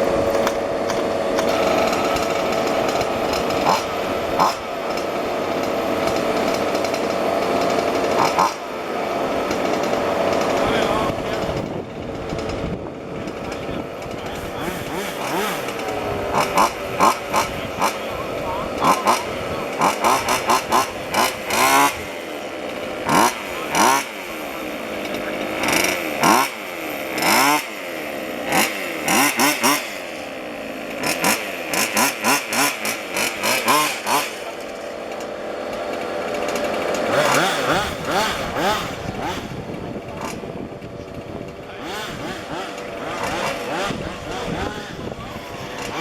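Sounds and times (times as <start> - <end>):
engine throttle blips: 0.0 - 46.0
small two-stroke engines racing: 0.0 - 46.0.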